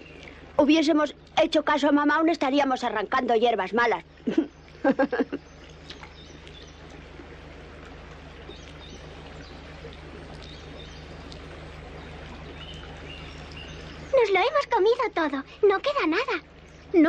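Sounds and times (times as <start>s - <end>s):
birds chirping: 0.0s - 17.0s
low steady hum: 0.0s - 17.0s
running water hiss: 0.0s - 17.0s.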